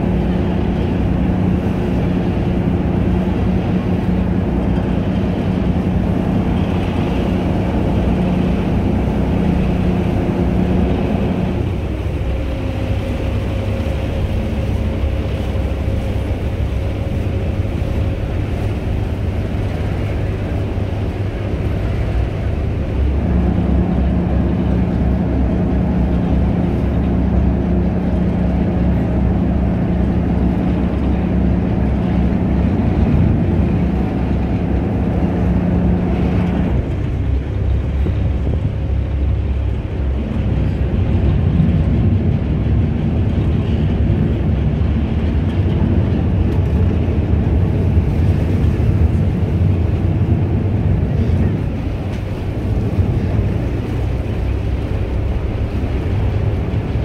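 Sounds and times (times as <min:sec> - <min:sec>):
ferry engine drone: 0:00.0 - 0:57.0
water noise: 0:00.0 - 0:57.0.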